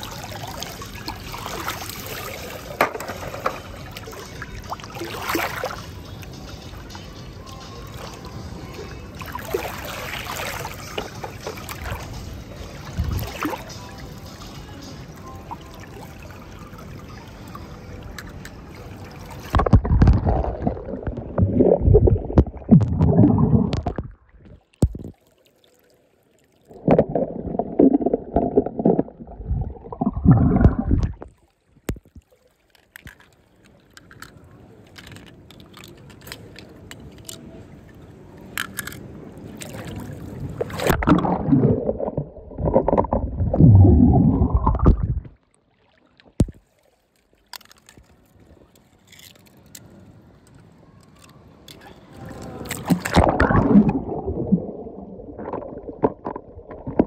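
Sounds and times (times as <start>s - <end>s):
pool water sloshing and gurgling: 0.0s - 6.9s, 7.8s - 57.0s.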